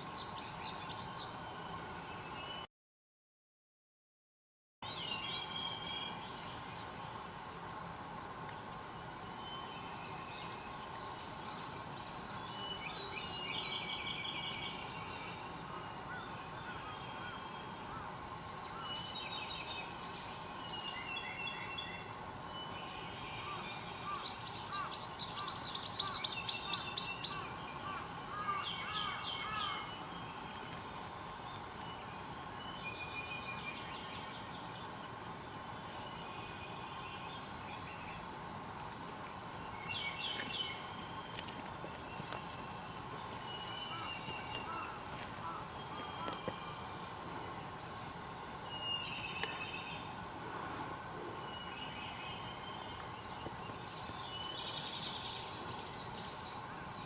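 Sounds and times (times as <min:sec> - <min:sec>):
songbirds calling and singing: 0:00.0 - 0:02.7, 0:04.8 - 0:57.0.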